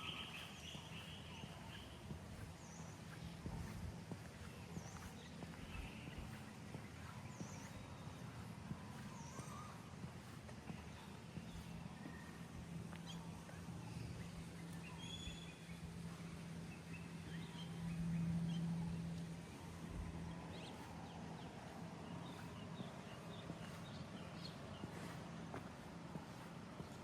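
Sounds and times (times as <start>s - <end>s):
faint footsteps: 0.0s - 27.0s
steady low hum: 0.0s - 27.0s.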